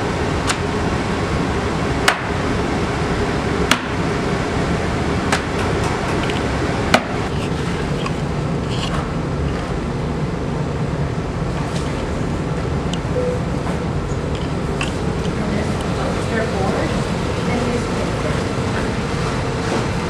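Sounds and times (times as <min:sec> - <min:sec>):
pottery studio background noise: 0:00.0 - 0:20.0.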